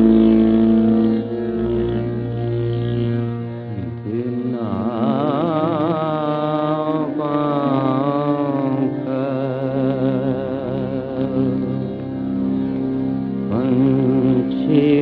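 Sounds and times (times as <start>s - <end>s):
person singing with heavy vibrato: 0.0s - 12.5s, 13.4s - 15.0s
sustained accompaniment notes: 0.0s - 15.0s.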